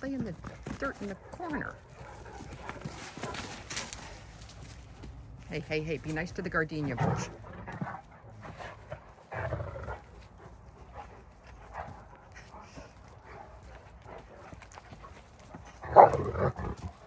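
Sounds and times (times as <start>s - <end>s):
dogs scuffling: 0.0s - 17.0s.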